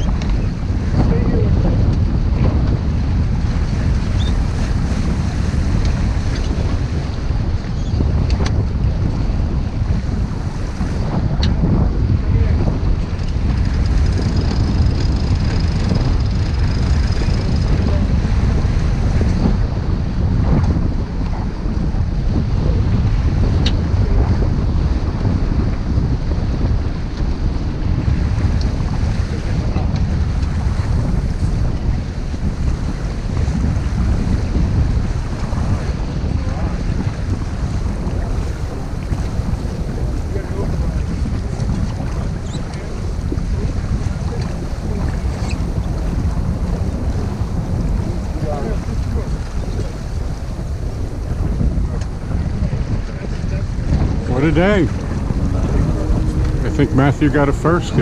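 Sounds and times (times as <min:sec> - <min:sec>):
water washing along boat: 0:00.0 - 0:58.0
wind buffeting microphone: 0:00.0 - 0:58.0.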